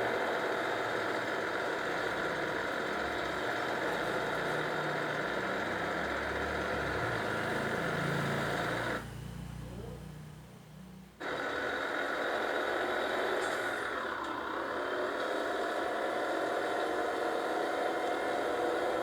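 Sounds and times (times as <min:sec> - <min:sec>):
heavy machine engine running: 0:00.0 - 0:09.9, 0:11.2 - 0:19.0.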